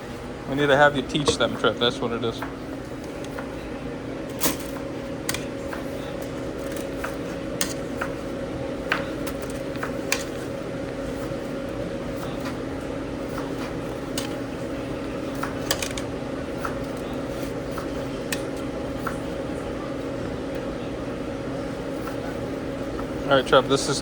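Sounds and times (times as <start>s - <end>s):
fan hum: 0.0s - 24.0s.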